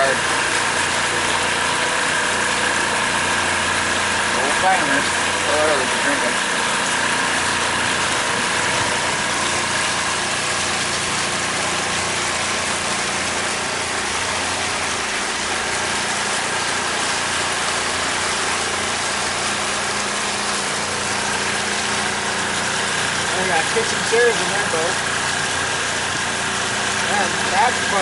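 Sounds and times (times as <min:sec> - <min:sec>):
outboard motor running: 0:00.0 - 0:28.0.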